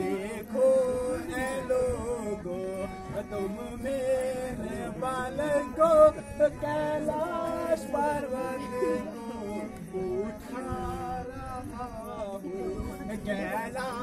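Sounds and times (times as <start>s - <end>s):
instrumental accompaniment: 0.0s - 14.0s
man singing: 0.0s - 14.0s.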